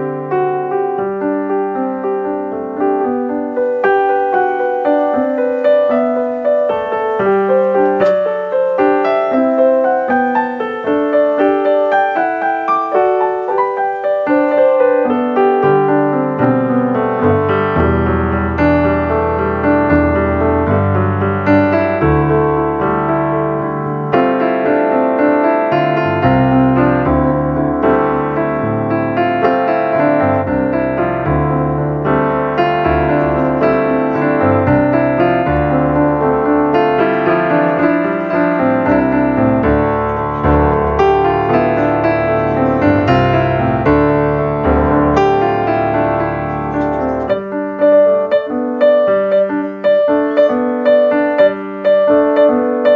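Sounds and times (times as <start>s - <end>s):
piano music: 0.0s - 52.9s.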